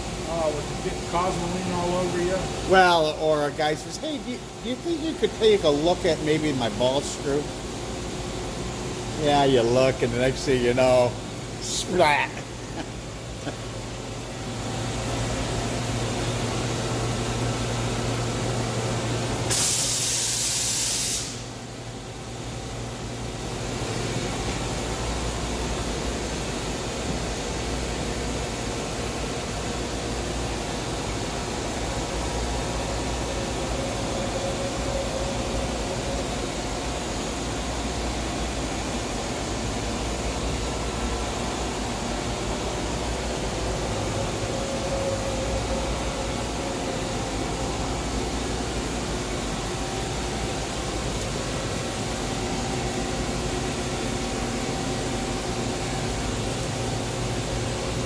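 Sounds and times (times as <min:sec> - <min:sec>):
machining centre running: 0:00.0 - 0:19.7, 0:21.4 - 0:58.0.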